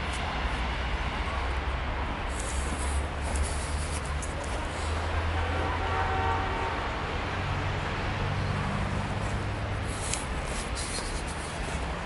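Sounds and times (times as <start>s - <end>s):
city traffic rumble: 0.0s - 12.0s
vehicle engine droning: 0.0s - 12.0s.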